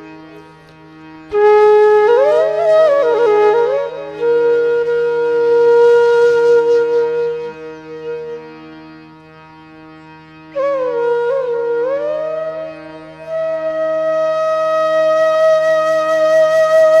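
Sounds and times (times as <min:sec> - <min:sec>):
steady drone: 0:00.0 - 0:17.0
flute melody: 0:01.3 - 0:08.9, 0:10.5 - 0:17.0.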